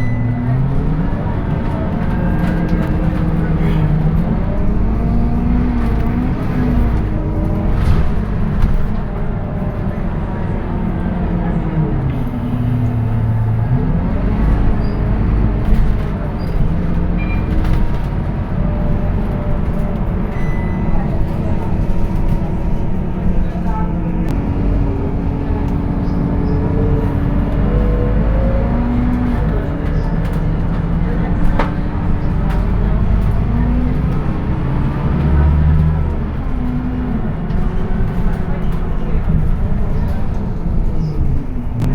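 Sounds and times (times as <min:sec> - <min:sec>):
bus engine drone with whine: 0:00.0 - 0:41.9.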